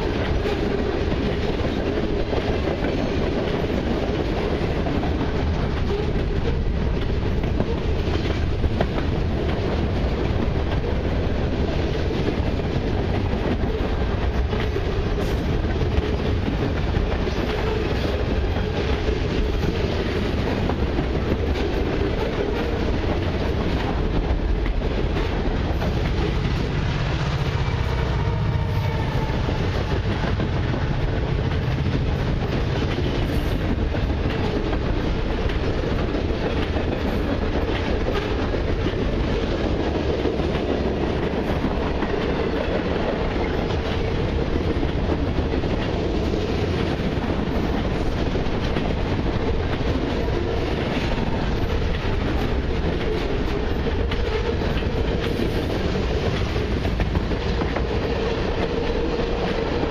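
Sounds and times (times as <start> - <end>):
freight train rumbling: 0.0 - 59.9
steel wheels clattering on rails: 0.0 - 59.9.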